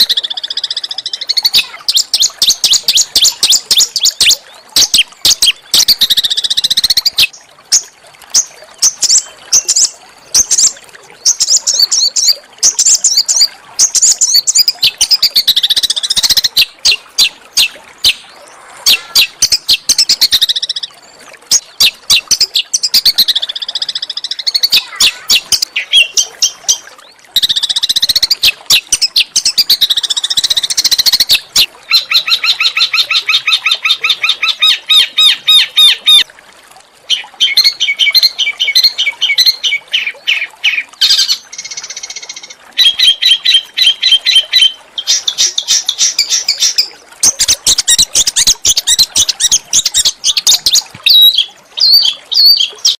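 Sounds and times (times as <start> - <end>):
songbird singing: 0.0 - 36.3, 37.1 - 53.0.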